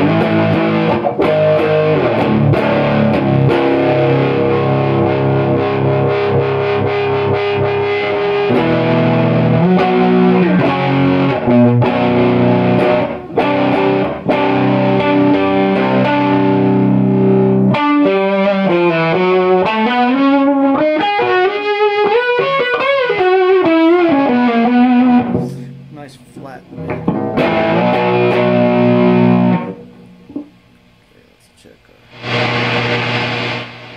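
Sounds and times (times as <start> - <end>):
distorted electric guitar: 0.0 - 30.7, 32.0 - 33.9.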